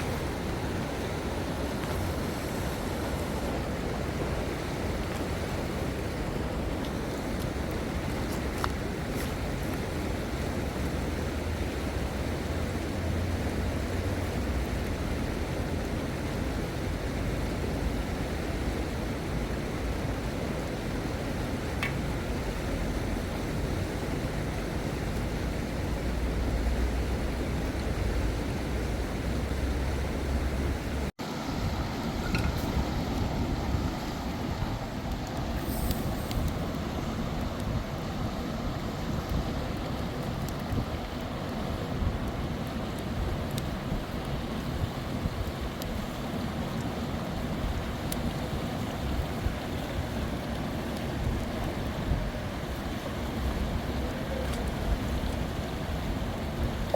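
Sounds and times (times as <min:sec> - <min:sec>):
river flowing: 0:00.0 - 0:56.9
wind: 0:00.0 - 0:56.9.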